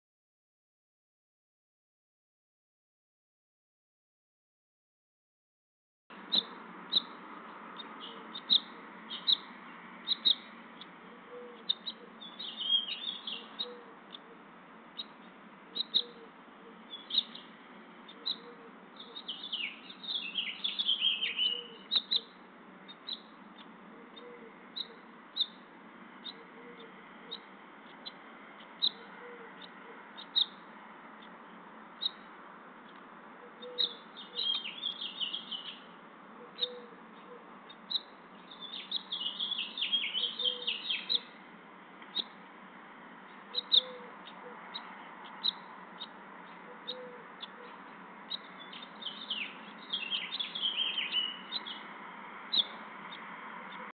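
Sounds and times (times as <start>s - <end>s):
songbird chirping and twittering: 6.1s - 53.9s.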